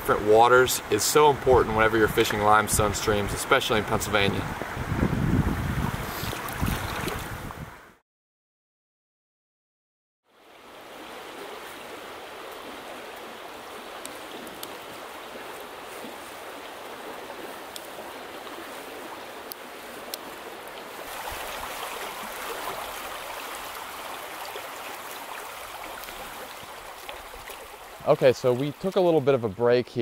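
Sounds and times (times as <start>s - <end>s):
stream water running over riffles: 0.0s - 7.6s, 10.3s - 30.0s.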